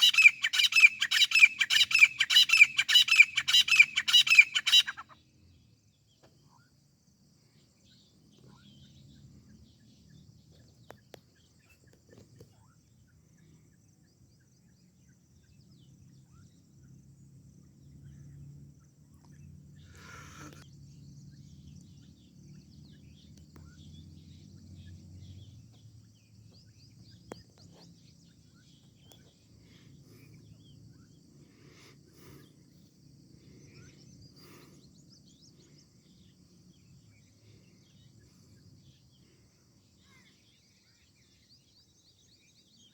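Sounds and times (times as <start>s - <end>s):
faint chirps: 0.0s - 42.9s
insects trilling: 0.0s - 42.9s.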